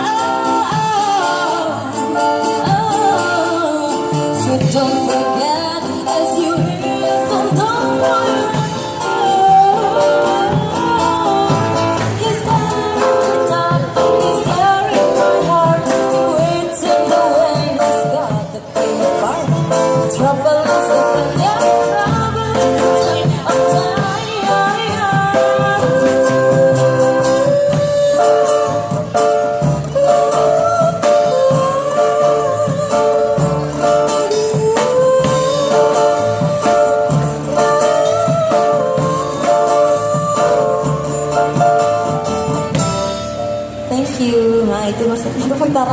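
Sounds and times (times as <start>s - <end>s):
person singing: 0.0s - 42.6s
street band playing: 0.0s - 45.9s.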